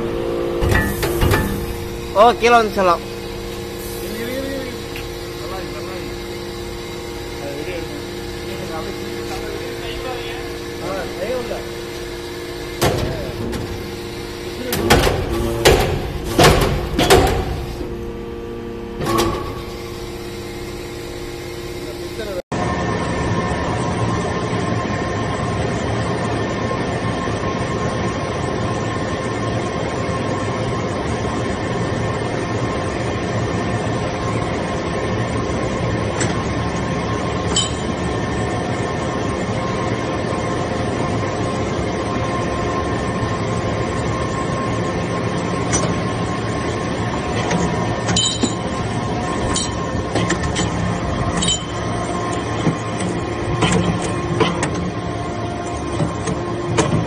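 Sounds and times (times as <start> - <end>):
hydraulic pump motor hum: 0.0 - 57.0.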